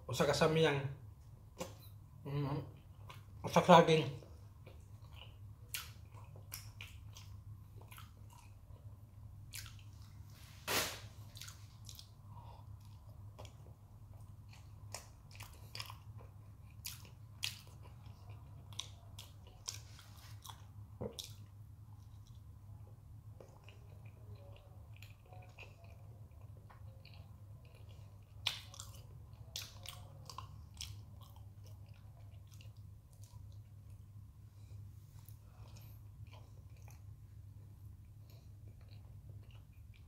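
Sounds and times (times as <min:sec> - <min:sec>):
person chewing a banana: 0:01.3 - 0:40.0.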